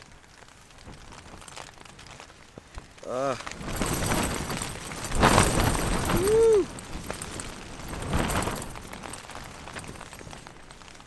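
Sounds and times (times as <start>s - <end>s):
tent fabric shaking and flapping: 0.0s - 11.0s
wind gusts battering a tent: 0.0s - 11.0s.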